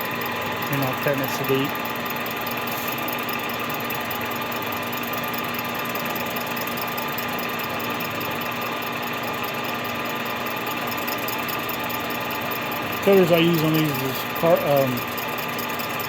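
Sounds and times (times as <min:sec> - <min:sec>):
machine tool cutting metal hum: 0:00.0 - 0:16.0.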